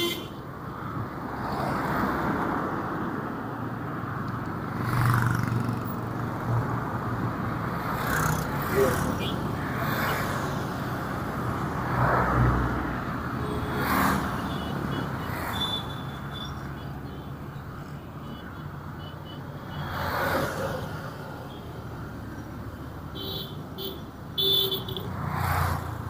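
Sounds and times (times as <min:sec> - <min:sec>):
vehicles passing by: 0:00.0 - 0:26.0.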